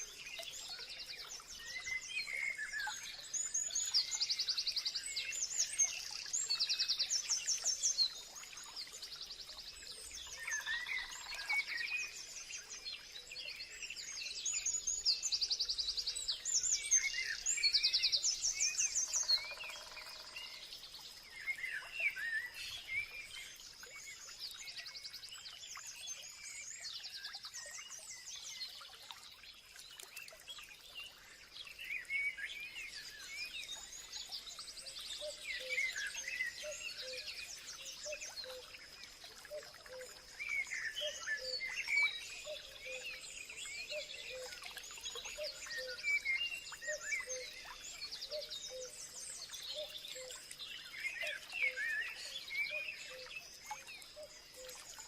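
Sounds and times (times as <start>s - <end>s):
songbirds trilling and chirping: 0.0s - 55.0s.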